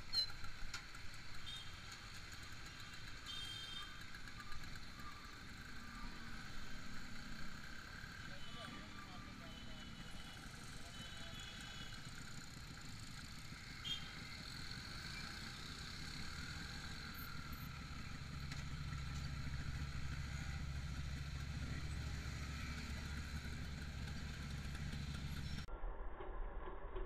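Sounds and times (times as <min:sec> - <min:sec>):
road traffic noise: 0:00.0 - 0:25.7
motorcycle engine running: 0:00.1 - 0:25.7.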